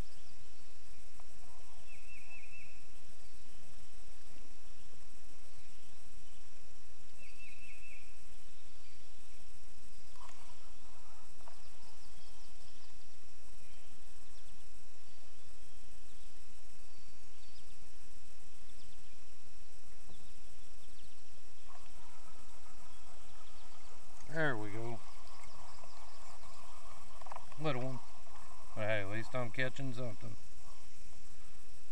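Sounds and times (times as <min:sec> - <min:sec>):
background hiss: 0:00.0 - 0:31.9
faint bird chirps: 0:00.0 - 0:31.9.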